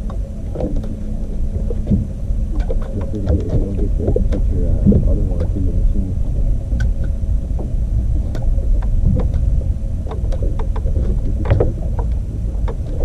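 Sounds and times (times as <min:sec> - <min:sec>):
boat rumbling on water: 0:00.0 - 0:13.0
light clicks and knocks: 0:00.0 - 0:13.0
wind on microphone: 0:00.0 - 0:13.0.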